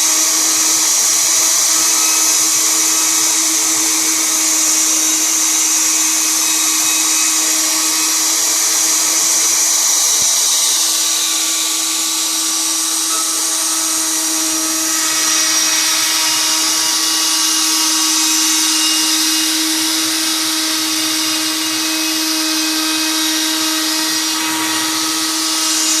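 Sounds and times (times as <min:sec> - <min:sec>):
router motor whining with hiss: 0:00.0 - 0:26.0.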